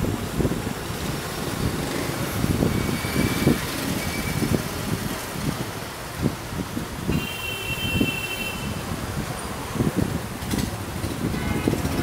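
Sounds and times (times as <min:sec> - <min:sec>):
cars and motorbikes passing: 0:00.0 - 0:12.0
tyre noise on wet road: 0:00.0 - 0:12.0.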